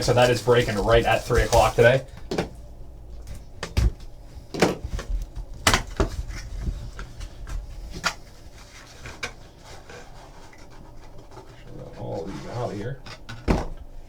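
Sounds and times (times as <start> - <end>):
cardboard boxes being handled: 0.0 - 2.6, 3.3 - 13.8.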